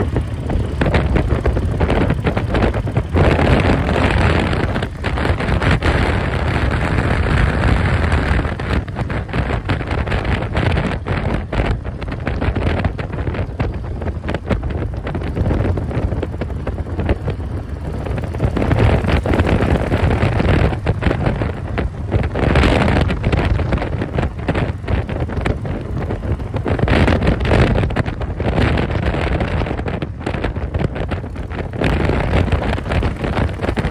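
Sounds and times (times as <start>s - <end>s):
motorcycle engine running: 0.0s - 33.9s
wind buffeting microphone: 0.0s - 33.9s.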